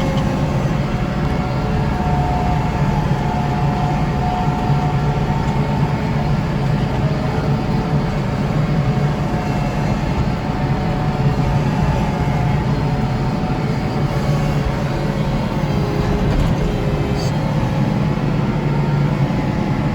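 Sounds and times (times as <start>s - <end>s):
snow blower whine: 0.0s - 19.9s
tractor diesel engine drone: 0.0s - 19.9s.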